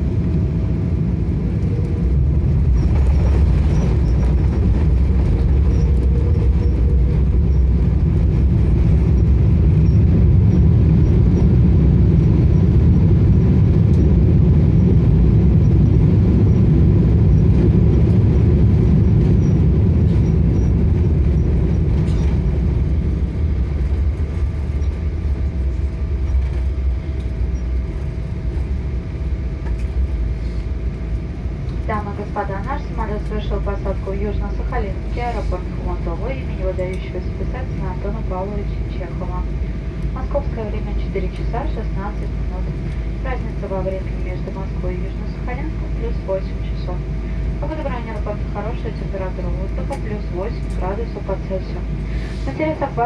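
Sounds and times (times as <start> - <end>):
aircraft cabin rumble: 0.0 - 53.0.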